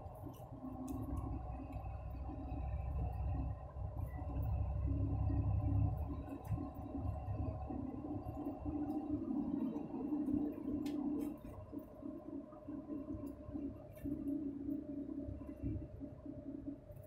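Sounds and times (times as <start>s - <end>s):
truck engine and tyres droning: 0.0s - 17.0s.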